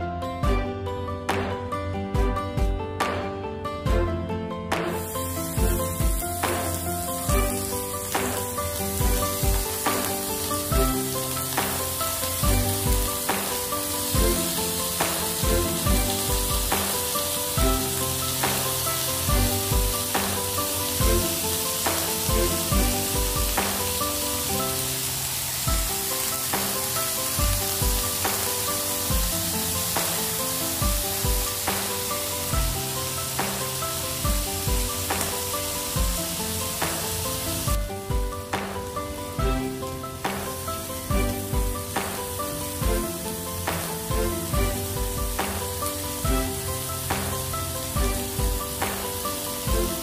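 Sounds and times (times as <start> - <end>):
music with a steady beat: 0.0 - 25.0, 25.7 - 50.0
chicken sizzling on a grill pan: 5.0 - 37.8, 39.8 - 50.0.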